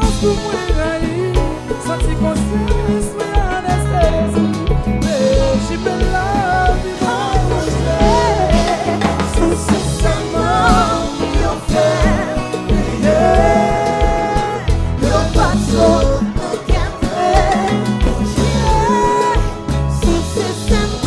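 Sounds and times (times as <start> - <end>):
lead vocalist singing: 0.0 - 21.0
live band music: 0.0 - 21.0.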